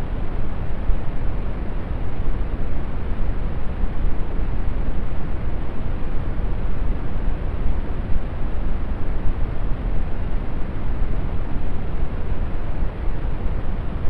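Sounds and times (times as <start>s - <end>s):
brown noise rumbling hiss: 0.0s - 14.0s.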